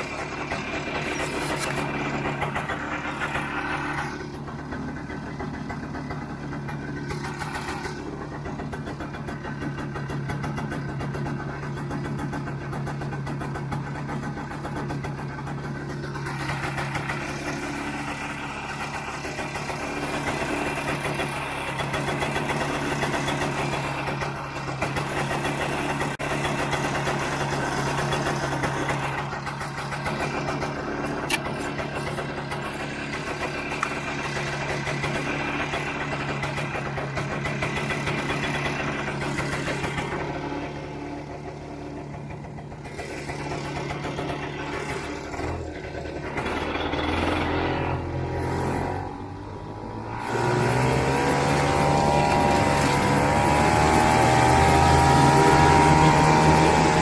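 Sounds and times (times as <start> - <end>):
snowmobile engine idling and revving: 0.0 - 57.0.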